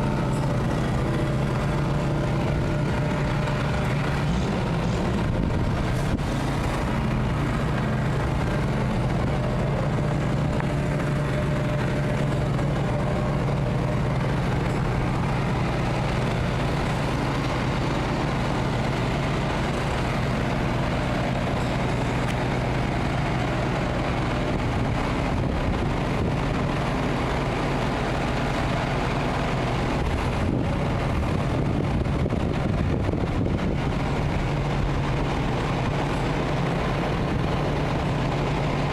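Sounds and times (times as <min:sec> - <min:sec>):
steady low drone: 0:00.0 - 0:38.9.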